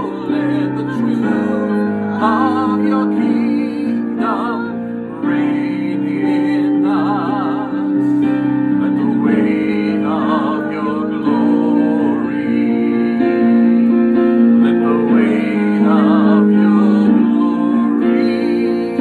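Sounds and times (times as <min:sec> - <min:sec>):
instrumental sustained chords: 0:00.0 - 0:19.0
man and woman singing: 0:00.0 - 0:19.0.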